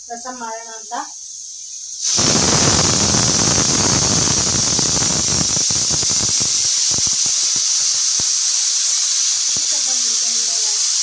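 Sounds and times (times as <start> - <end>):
pressure cooker whistle hissing: 2.0 - 11.0.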